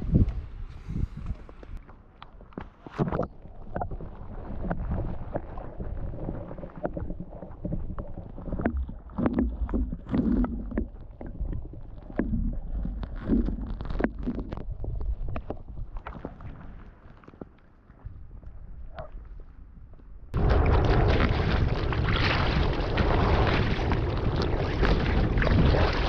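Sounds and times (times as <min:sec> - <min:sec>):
muffled underwater water rumble: 0:03.0 - 0:17.2, 0:18.0 - 0:26.0.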